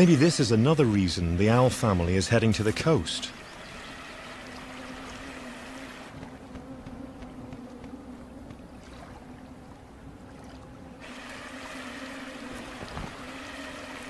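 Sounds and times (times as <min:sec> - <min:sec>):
flowing water: 0:00.0 - 0:14.0
low steady hum: 0:00.0 - 0:14.0.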